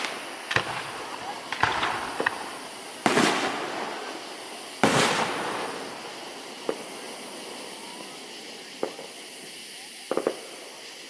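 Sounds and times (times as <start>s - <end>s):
fireworks bursting with bangs: 0.0s - 11.0s.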